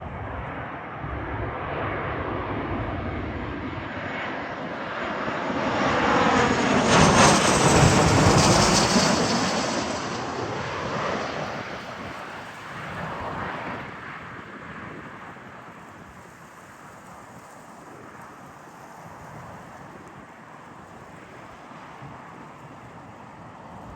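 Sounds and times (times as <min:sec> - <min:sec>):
jet aircraft passing overhead: 0:00.0 - 0:23.9.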